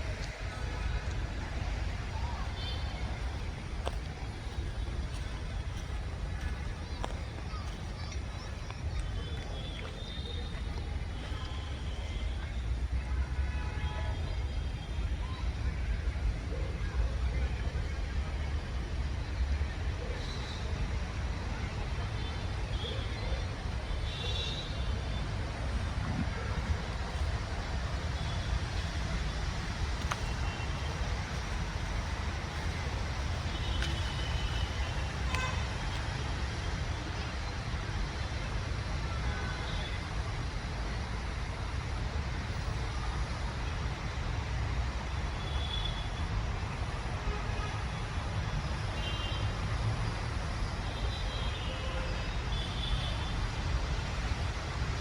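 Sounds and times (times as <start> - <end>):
city traffic noise: 0.0 - 55.0.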